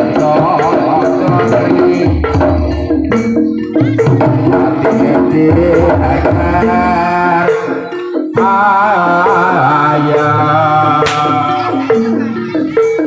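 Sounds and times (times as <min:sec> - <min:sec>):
hand drums beating: 0:00.0 - 0:13.0
metallophone notes: 0:00.0 - 0:13.0.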